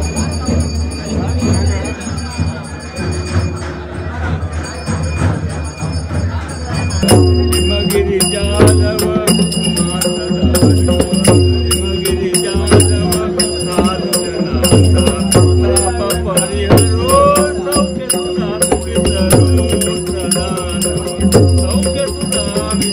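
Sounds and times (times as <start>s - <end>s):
drum struck in uneven beat: 0.0s - 22.9s
jingling bells: 0.0s - 22.9s.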